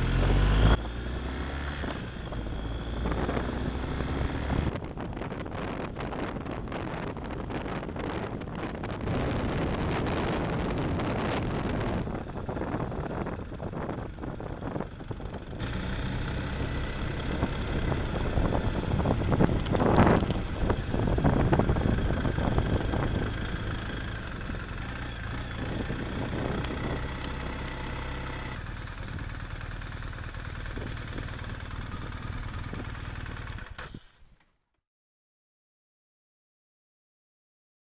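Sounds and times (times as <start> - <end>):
motorcycle engine running: 0.0 - 34.1.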